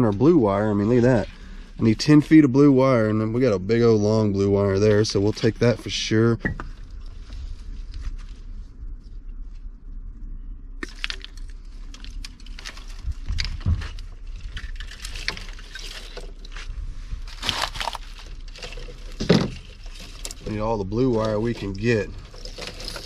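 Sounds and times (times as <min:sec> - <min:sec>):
low steady rumble: 0:00.0 - 0:23.0
wires crackling and rustling: 0:00.0 - 0:23.0.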